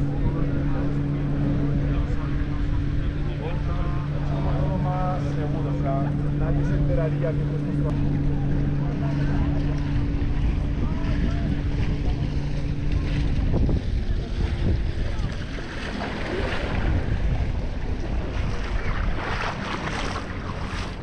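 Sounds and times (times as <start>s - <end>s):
engine hum: 0.0s - 21.0s
faint distant voices: 0.0s - 21.0s
small waves lapping: 0.0s - 21.0s
wind buffeting microphone: 0.0s - 21.0s.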